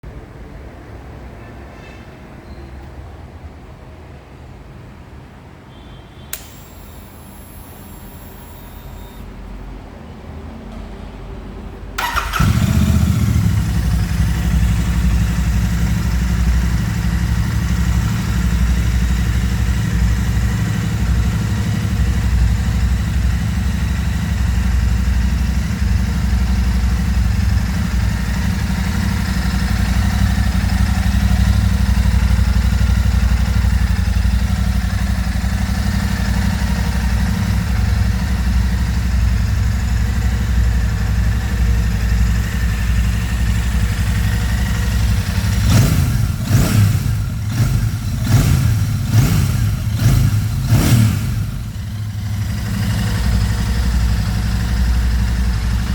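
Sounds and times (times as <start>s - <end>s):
motorcycle engine idling: 6.3s - 9.3s, 12.0s - 55.9s.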